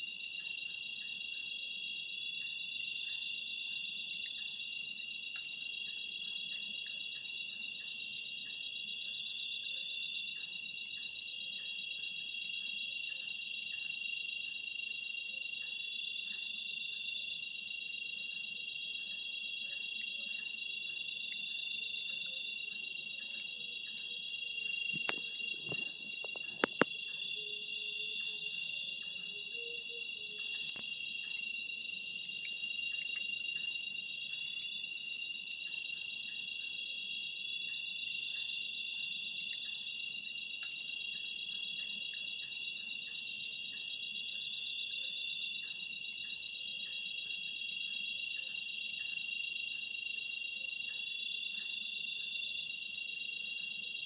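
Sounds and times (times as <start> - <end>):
night insects chorus: 0.0 - 54.0.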